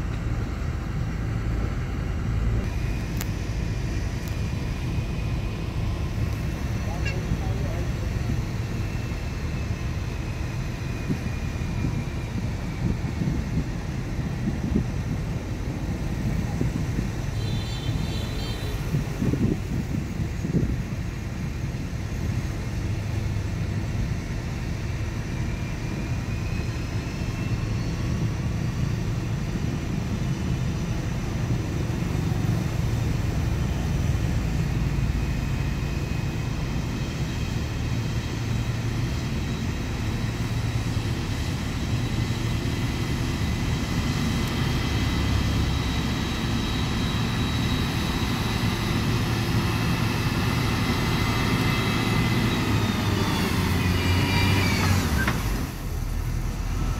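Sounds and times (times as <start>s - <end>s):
diesel machinery engine rumble: 0.0s - 56.9s
high machine whine: 0.0s - 56.9s.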